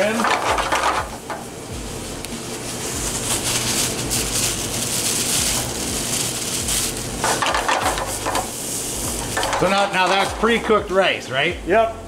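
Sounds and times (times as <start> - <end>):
cream and cheese sizzling in pan: 0.0 - 11.2.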